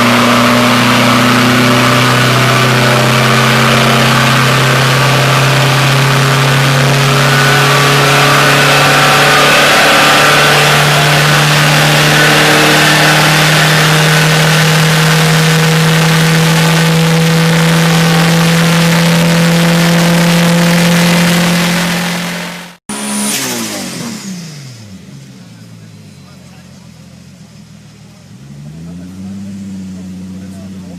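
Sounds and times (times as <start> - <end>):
car engine at high revs: 0.0 - 30.9.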